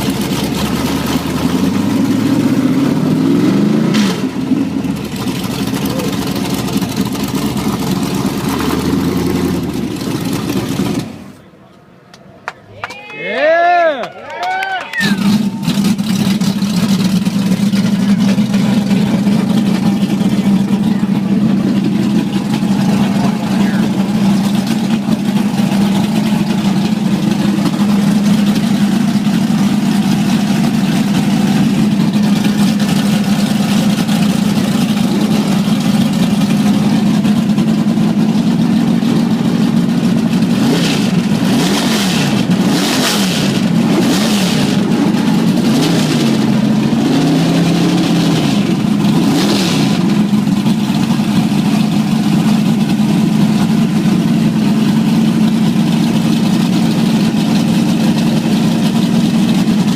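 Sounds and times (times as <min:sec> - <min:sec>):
loud car engine idling and revving: 0:00.0 - 0:12.6, 0:14.9 - 0:59.9.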